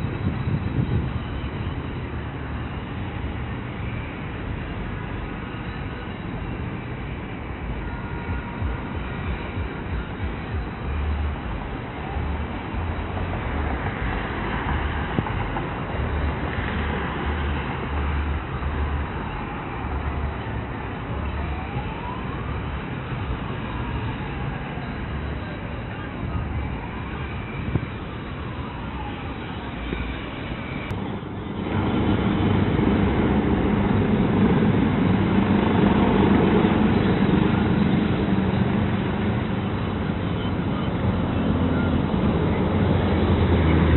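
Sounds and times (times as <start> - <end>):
helicopter running: 0.0 - 43.9.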